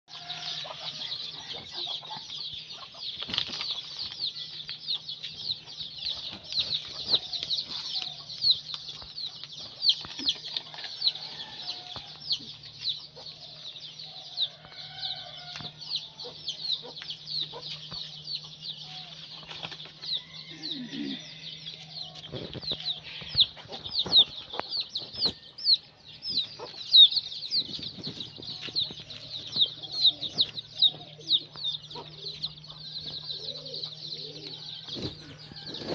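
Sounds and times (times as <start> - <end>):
chickens chirping: 0.1 - 35.9
chickens clucking: 0.1 - 35.9.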